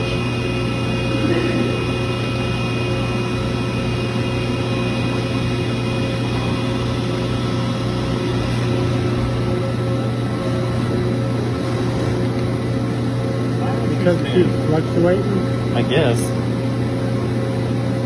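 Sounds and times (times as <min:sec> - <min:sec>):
hydraulic power unit humming: 0:00.0 - 0:18.0.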